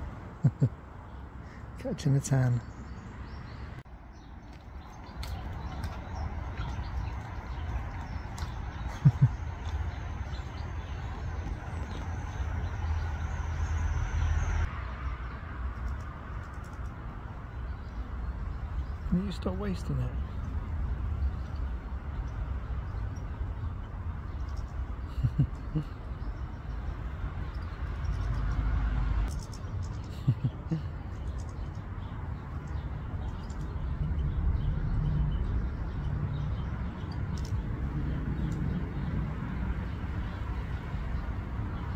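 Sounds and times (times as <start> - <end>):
low outdoor rumble: 2.3 - 41.9.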